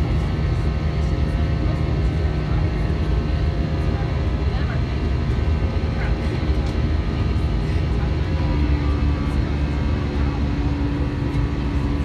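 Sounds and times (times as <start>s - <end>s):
jet engine and airflow roar: 0.0s - 12.0s
steady low hum: 0.0s - 12.0s.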